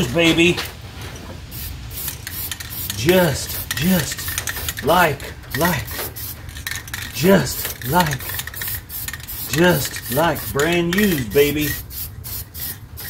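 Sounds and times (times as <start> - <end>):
aerosol can spraying: 1.5 - 13.0.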